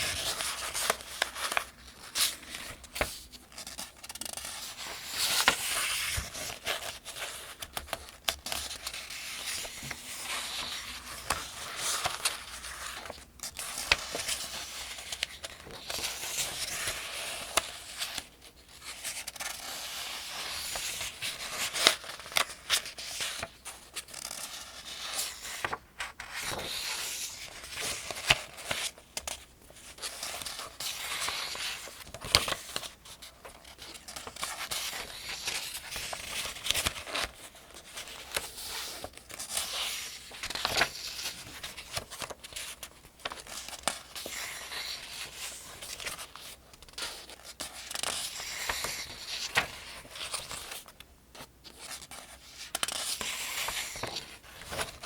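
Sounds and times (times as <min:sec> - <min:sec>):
paper pages turning: 0:00.0 - 0:55.0.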